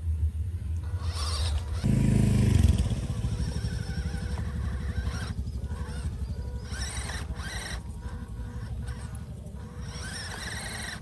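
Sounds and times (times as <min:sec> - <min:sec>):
rc truck engine rumble: 0:00.0 - 0:11.0.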